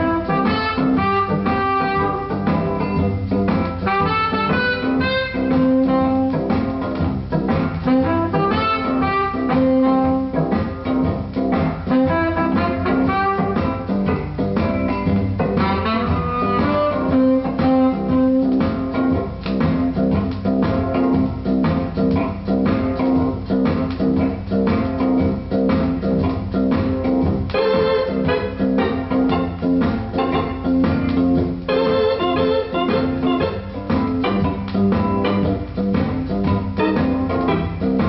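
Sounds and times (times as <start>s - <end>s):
pop record with band music: 0.0s - 38.0s.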